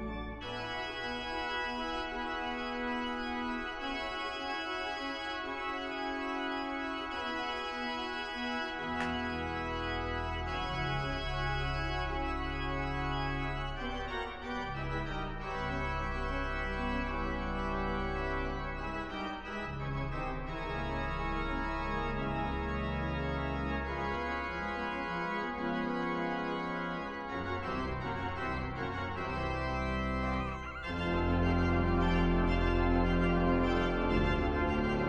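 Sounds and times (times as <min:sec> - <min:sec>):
slow organ-like film music: 0:00.0 - 0:35.0.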